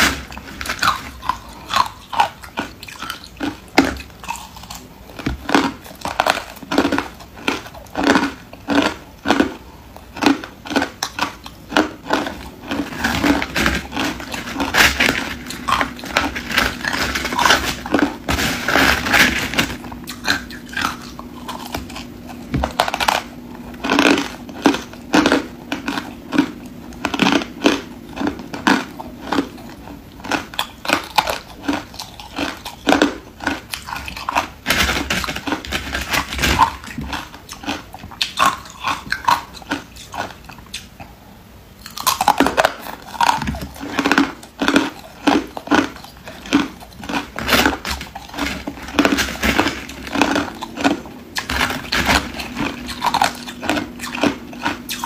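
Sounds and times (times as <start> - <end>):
ice cubes crunching when chewed: 0.0 - 41.0, 41.8 - 55.0.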